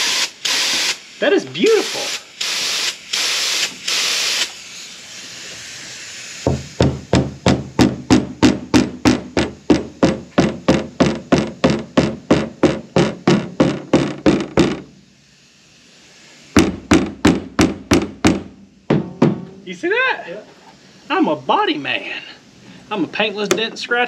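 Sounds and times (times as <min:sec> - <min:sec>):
faint hiss: 0:00.0 - 0:24.0.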